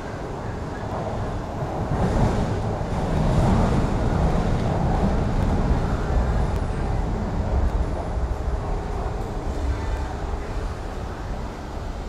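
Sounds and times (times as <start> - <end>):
train running inside carriage: 0.0 - 12.0.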